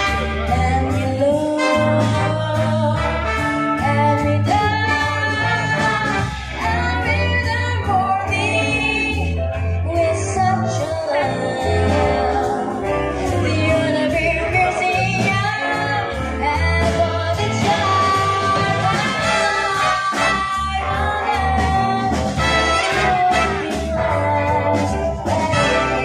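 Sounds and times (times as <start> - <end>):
big band playing: 0.0 - 26.0
woman singing jazz: 0.0 - 26.0.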